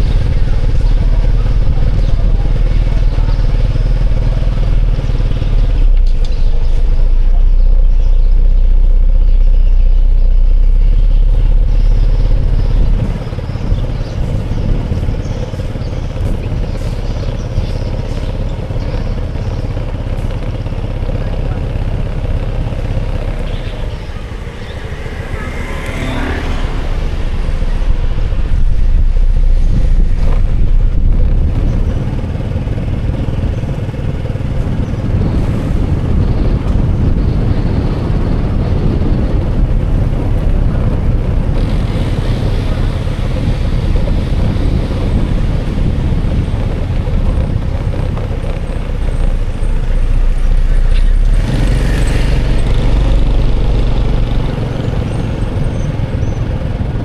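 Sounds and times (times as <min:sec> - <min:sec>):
motor vehicle rumbling: 0:00.0 - 0:57.0.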